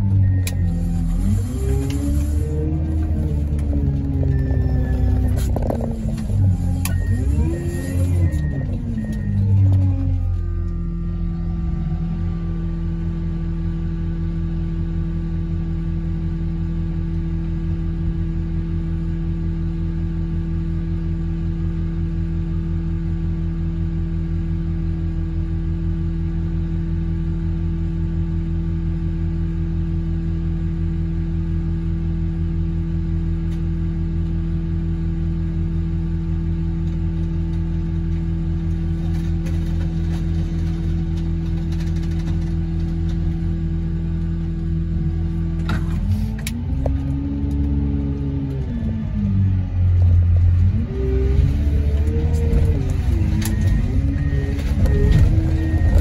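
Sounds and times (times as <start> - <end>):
engine droning: 0.0 - 26.2, 30.4 - 56.0.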